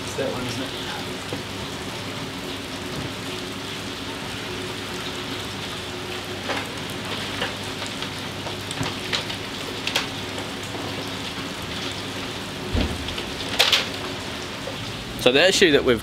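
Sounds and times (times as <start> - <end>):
rain on a steel roof: 0.0 - 16.0.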